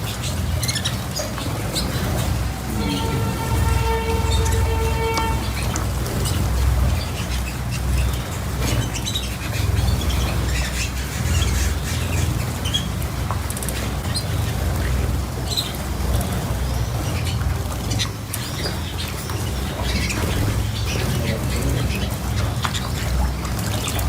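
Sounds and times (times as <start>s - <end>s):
cage birds chirping: 0.0s - 24.0s.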